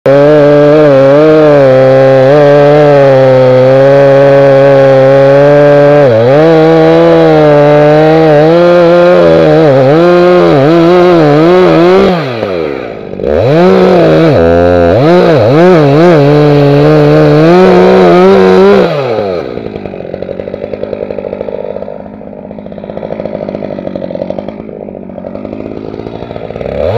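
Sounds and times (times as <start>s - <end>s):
chainsaw cutting wood: 0.1s - 26.9s.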